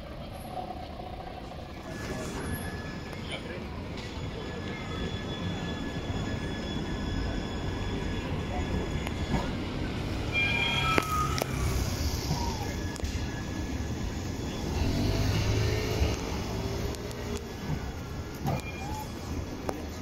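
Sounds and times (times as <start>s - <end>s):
tram rumbling on rails: 0.0s - 20.0s
high wheel squeal: 1.8s - 20.0s.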